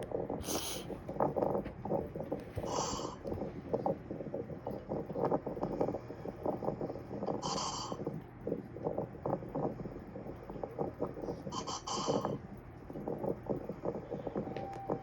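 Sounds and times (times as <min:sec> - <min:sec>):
hissing breaths: 0:00.4 - 0:15.0.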